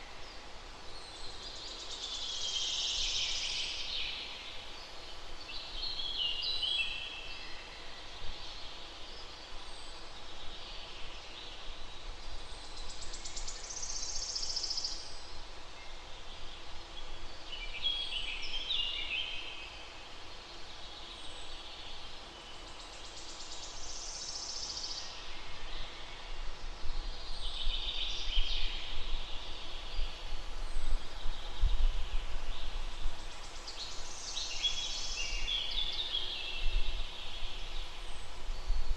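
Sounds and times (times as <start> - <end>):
songbird singing: 0.0 - 38.9
steady background hiss: 0.0 - 38.9.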